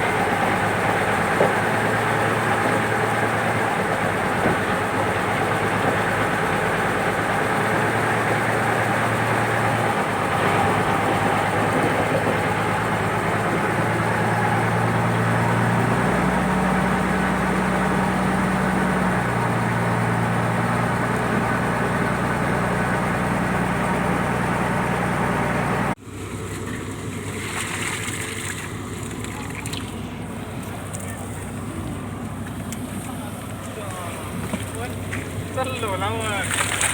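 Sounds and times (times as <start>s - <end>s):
boat engine running: 0.0s - 36.9s.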